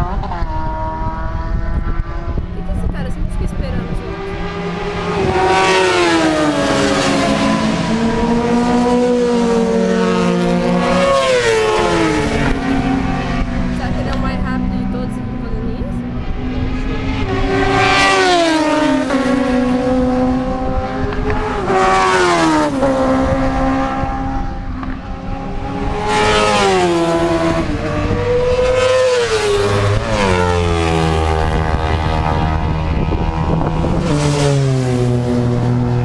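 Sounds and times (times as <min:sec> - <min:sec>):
motorcycles racing past: 0:00.0 - 0:36.0.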